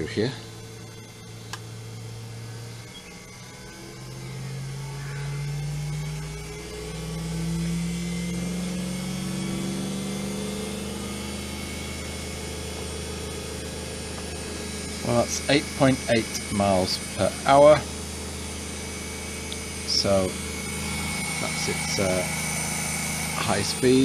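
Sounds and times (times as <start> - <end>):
electric motor humming: 0.0 - 24.0.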